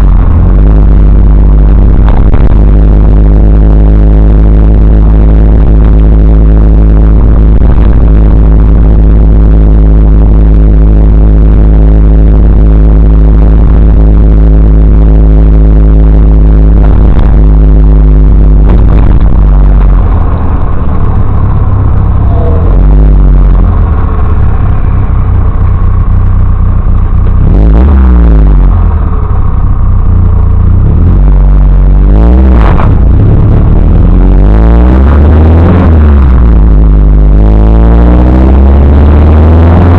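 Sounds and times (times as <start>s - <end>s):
distorted car engine and exhaust: 0.0s - 39.9s.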